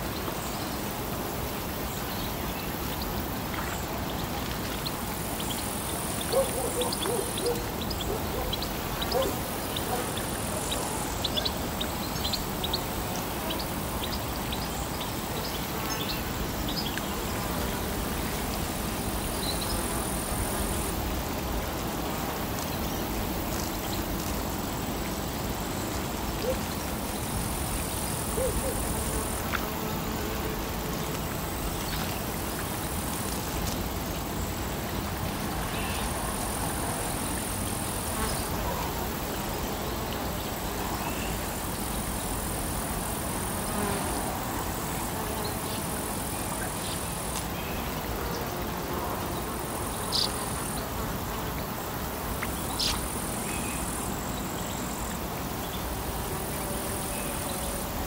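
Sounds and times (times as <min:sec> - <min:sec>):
insect buzz: 0:00.0 - 0:58.0.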